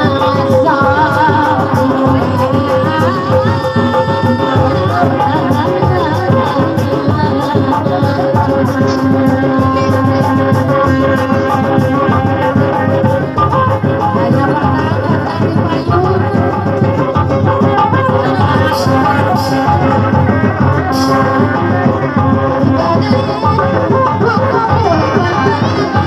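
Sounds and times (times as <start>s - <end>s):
drums steady beat: 0.0s - 26.0s
fast rattling percussion: 0.0s - 26.0s
melody with bending notes: 0.0s - 26.0s.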